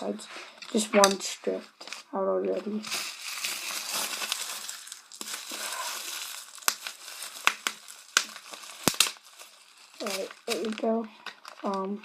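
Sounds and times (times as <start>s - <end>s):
plastic bag crinkling: 0.6s - 12.0s.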